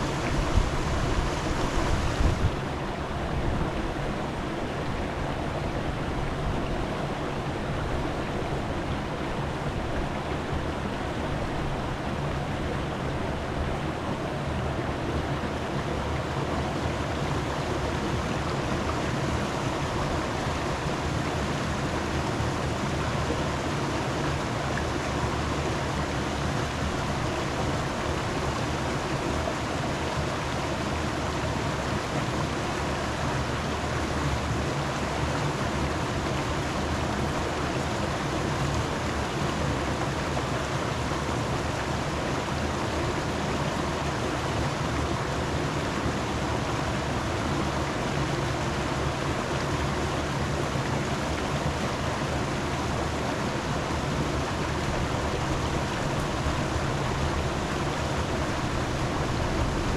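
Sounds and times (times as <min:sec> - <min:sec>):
rushing water roar: 0:00.0 - 0:59.9.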